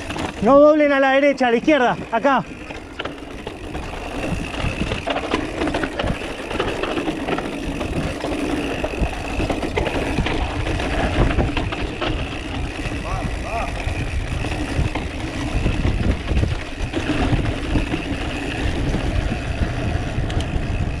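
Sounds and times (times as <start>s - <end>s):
bike chain and frame rattling: 0.0s - 21.0s
wind rumble on microphone: 2.8s - 21.0s.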